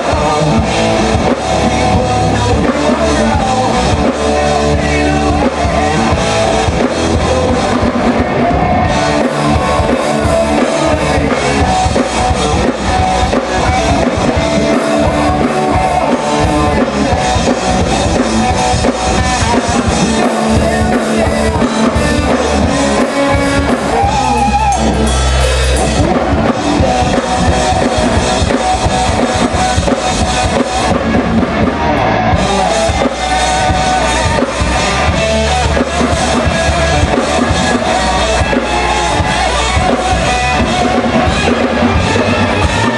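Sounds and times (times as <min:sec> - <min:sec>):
bass guitar: 0:00.0 - 0:42.9
drum kit: 0:00.0 - 0:42.9
electric guitars: 0:00.0 - 0:42.9.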